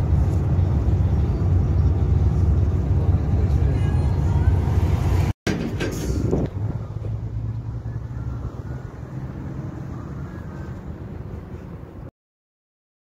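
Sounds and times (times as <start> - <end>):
car engine and tyre rumble: 0.0 - 12.1.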